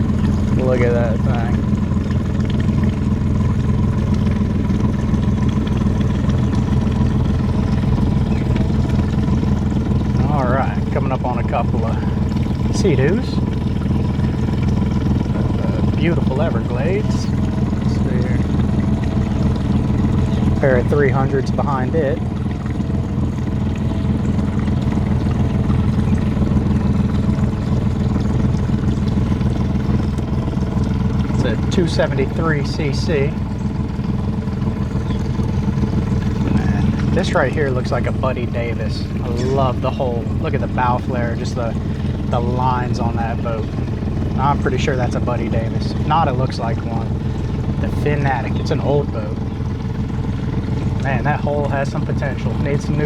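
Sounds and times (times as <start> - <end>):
motorboat engine droning: 0.0 - 53.0.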